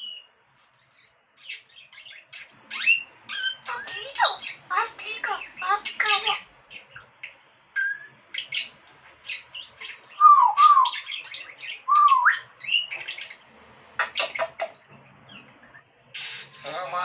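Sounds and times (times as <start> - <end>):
parrot chirps and squawks: 1.0 - 16.8.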